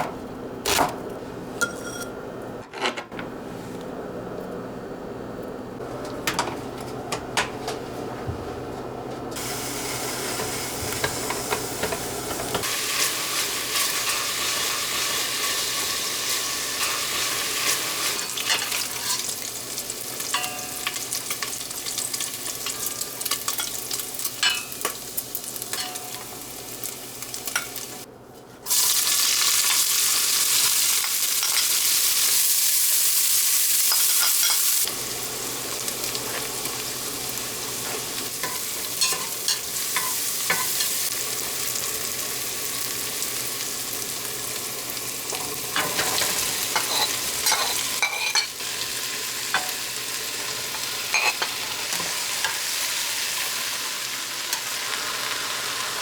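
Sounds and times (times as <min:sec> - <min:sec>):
food sizzling in a pan: 0:09.4 - 0:28.1, 0:28.7 - 0:56.0.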